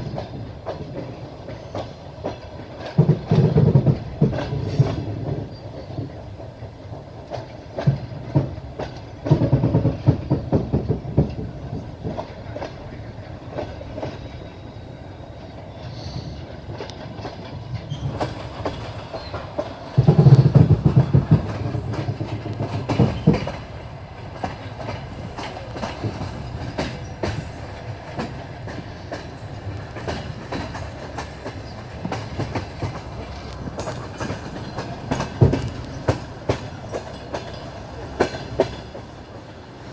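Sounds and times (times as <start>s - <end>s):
train rumble: 0.0s - 39.9s
train wheels clacking on rails: 0.0s - 39.9s.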